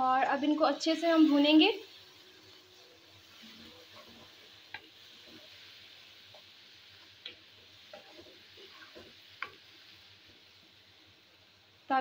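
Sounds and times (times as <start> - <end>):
food sizzling in oil: 0.0 - 12.0
wooden spatula scraping a wok: 0.9 - 10.6.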